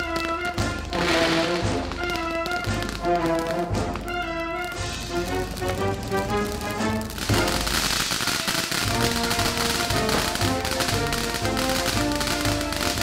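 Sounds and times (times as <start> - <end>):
background music: 0.0 - 13.0
firework fountain crackling: 0.0 - 13.0.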